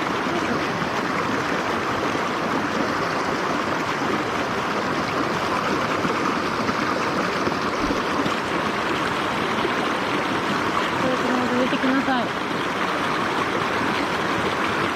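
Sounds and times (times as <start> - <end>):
stream water running: 0.0 - 14.9.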